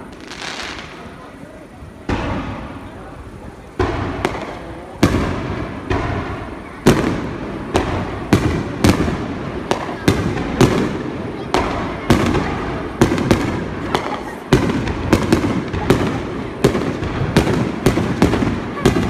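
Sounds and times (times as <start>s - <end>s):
fireworks booming with echo: 0.0s - 19.0s.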